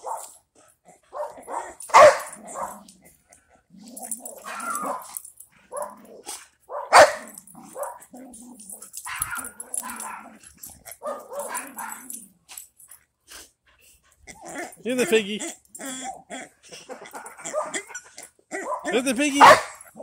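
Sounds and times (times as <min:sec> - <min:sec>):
dogs barking and growling: 0:00.0 - 0:20.0.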